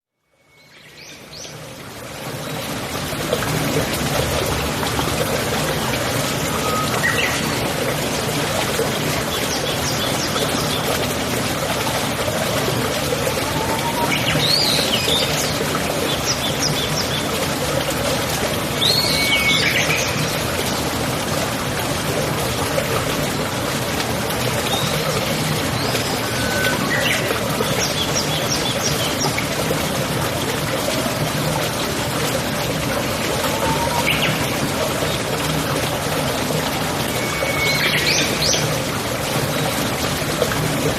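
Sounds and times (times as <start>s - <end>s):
stream water running: 0.2s - 40.9s.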